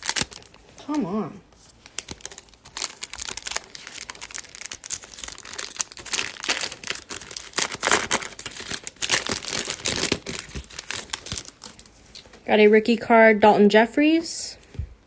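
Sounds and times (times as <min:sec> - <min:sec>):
foil wrapper crinkling and tearing: 0:00.0 - 0:12.1
cards being handled: 0:00.0 - 0:12.2.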